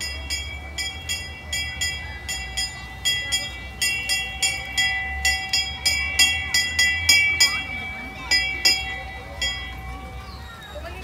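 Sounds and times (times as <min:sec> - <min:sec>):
train bell ringing rapidly: 0:00.0 - 0:11.0.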